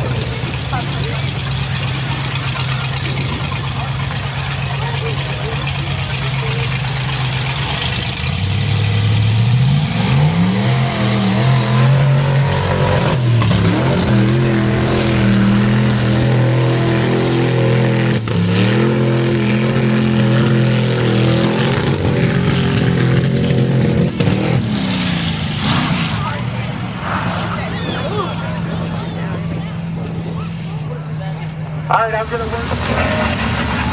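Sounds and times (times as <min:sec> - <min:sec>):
truck engine revving hard: 0:00.0 - 0:33.9.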